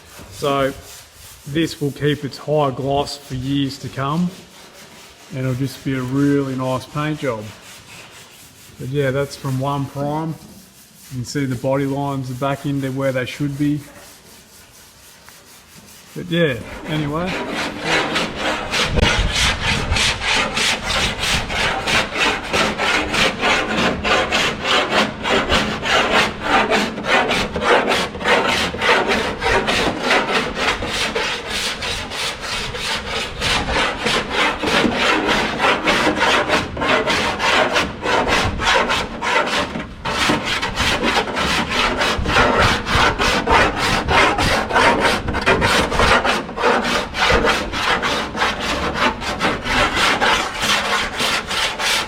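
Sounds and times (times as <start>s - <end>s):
file rasping on metal: 0.0s - 2.2s, 2.8s - 52.0s.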